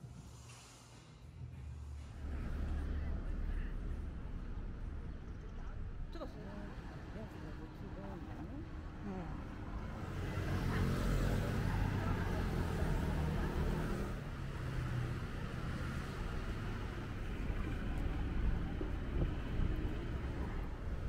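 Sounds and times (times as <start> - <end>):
traffic rumble: 1.4 - 21.0
cars and scooters passing: 1.9 - 21.0.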